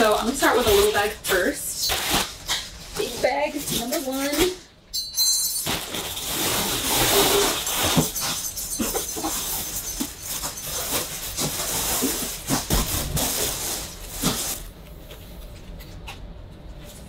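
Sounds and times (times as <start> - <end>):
plastic bag rustling and crinkling: 0.0 - 4.6, 5.6 - 15.1.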